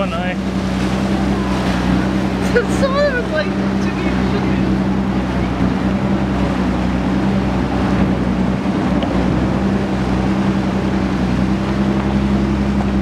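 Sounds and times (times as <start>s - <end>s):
boat engine humming: 0.0s - 13.0s
water noise: 0.0s - 13.0s.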